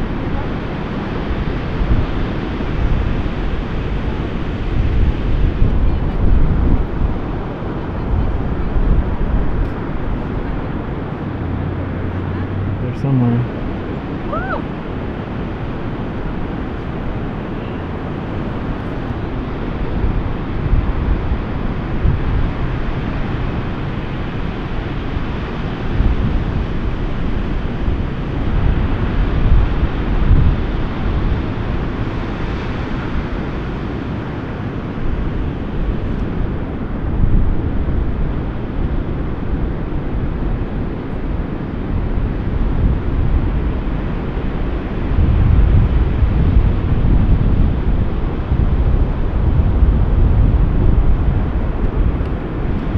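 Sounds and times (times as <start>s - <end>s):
ocean surf breaking: 0.0s - 52.9s
wind gusting on microphone: 0.0s - 52.9s.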